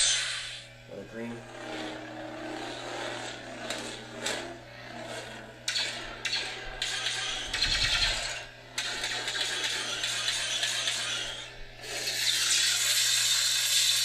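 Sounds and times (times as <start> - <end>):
lightsaber hum: 0.0 - 14.0.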